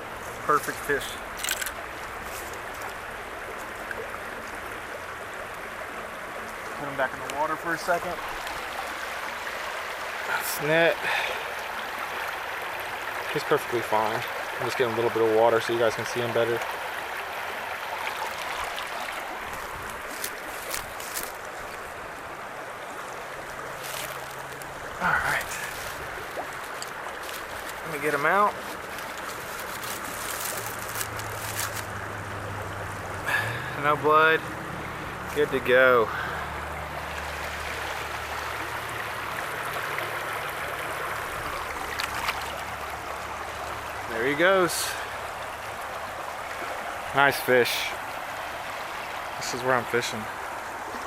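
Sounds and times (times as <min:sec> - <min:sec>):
flowing river water: 0:00.0 - 0:51.0.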